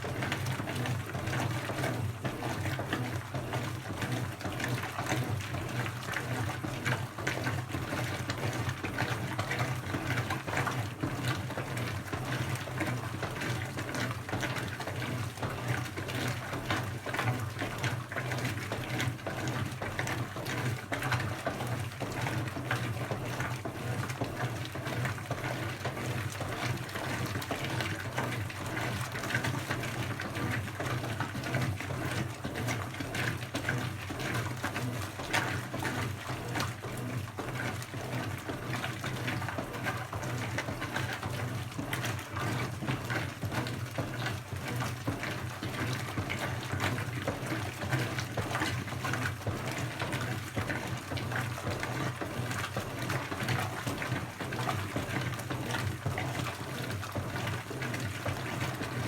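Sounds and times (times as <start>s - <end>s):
water splashing in washing machine drum: 0.0s - 59.0s.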